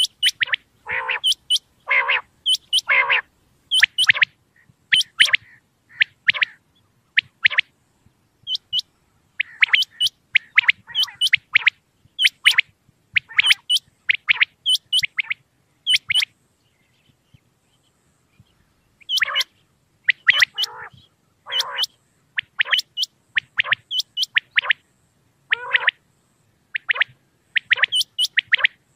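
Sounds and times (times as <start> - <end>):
quail calling: 0.0 - 7.7, 8.4 - 16.3, 19.0 - 24.8, 25.5 - 26.0, 26.7 - 28.9.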